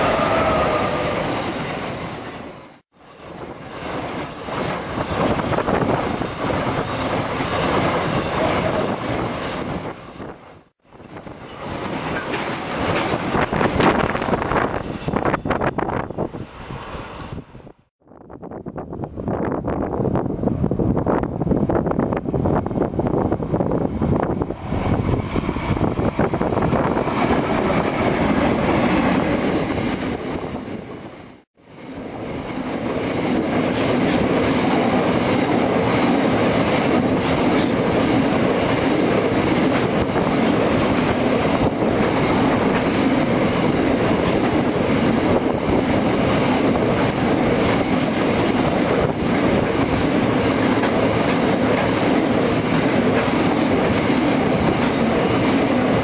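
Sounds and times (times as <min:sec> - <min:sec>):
freight train wheels on rails: 0:00.0 - 0:17.9, 0:18.8 - 0:56.0.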